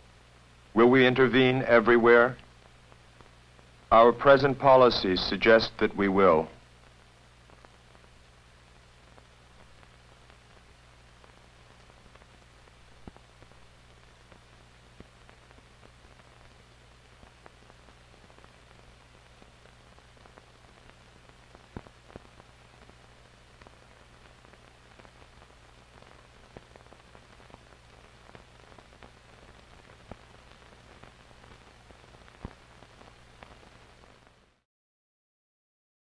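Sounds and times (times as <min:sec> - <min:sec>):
crackles and pops: 0:00.0 - 0:34.6
film soundtrack hiss: 0:00.0 - 0:34.6.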